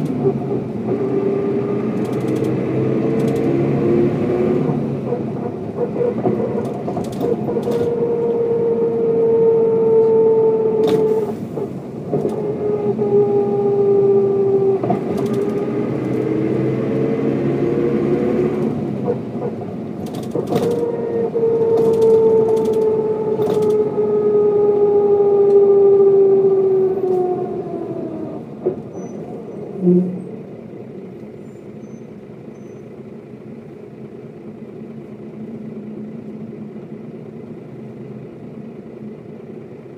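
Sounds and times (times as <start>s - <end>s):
bus diesel engine whining: 0.0s - 39.9s.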